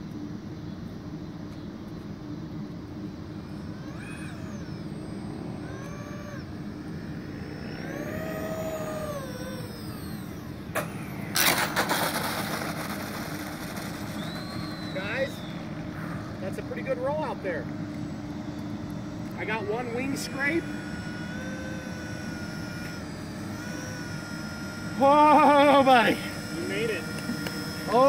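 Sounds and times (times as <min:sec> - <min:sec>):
electric fans whining: 0:00.0 - 0:28.0.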